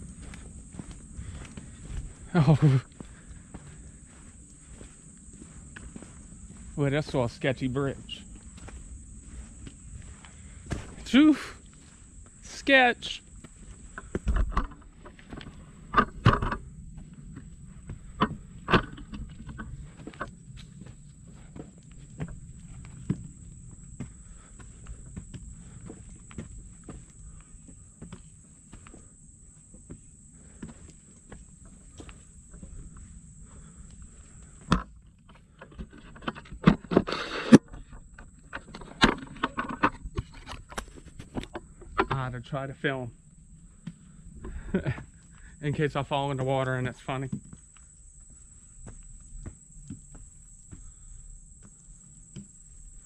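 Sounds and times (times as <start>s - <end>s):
footsteps on a footbridge: 0.0s - 38.0s, 43.6s - 53.0s.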